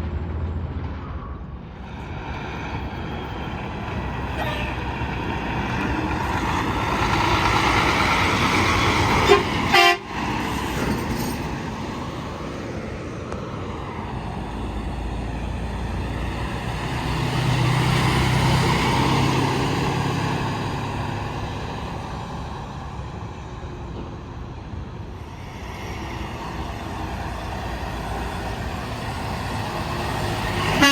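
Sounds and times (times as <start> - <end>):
highway traffic passing: 0.0 - 30.9
truck engine drone: 0.0 - 30.9.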